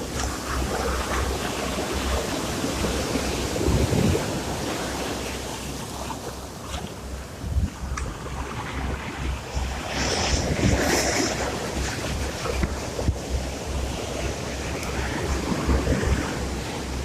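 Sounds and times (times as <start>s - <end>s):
waves washing in: 0.0s - 17.0s
wind buffeting microphone: 0.0s - 17.0s.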